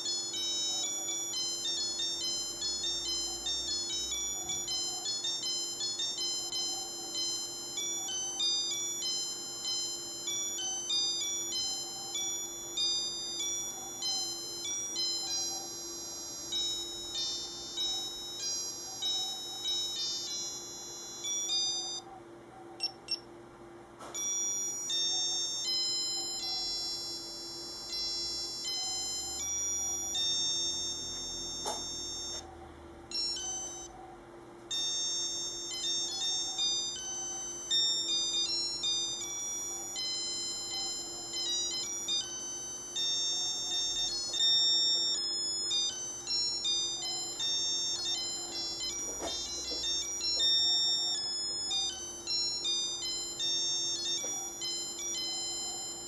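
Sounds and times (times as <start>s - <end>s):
watch beeper playing tunes: 0.0s - 22.1s, 24.1s - 32.5s, 33.1s - 33.9s, 34.7s - 56.0s.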